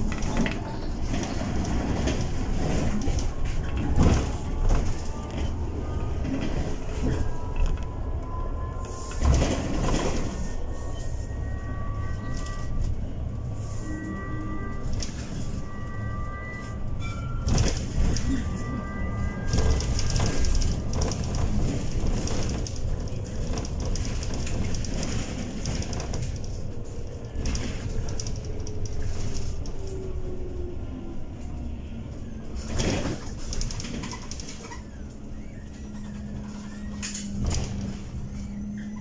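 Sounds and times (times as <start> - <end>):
bus road rumble: 0.0 - 39.0.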